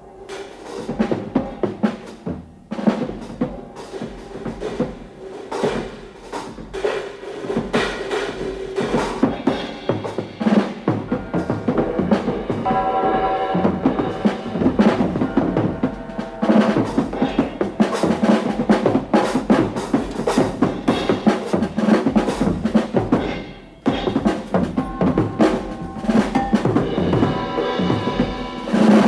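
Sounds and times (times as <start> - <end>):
drum-driven soundtrack music: 0.0 - 29.0.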